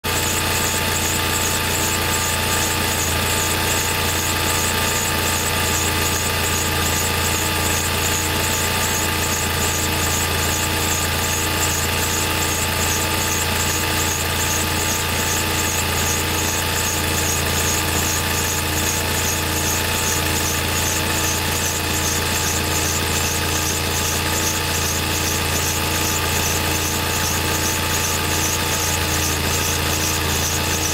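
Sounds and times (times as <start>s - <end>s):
engine running: 0.0s - 30.9s
squeal: 0.1s - 30.9s.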